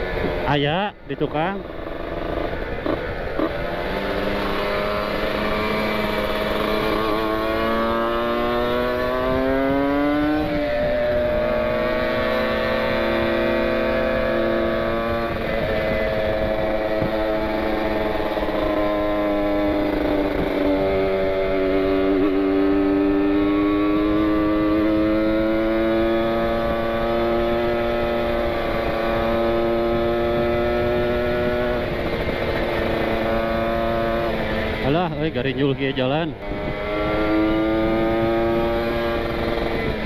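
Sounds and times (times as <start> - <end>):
two-stroke motorcycle engine: 0.0 - 40.0.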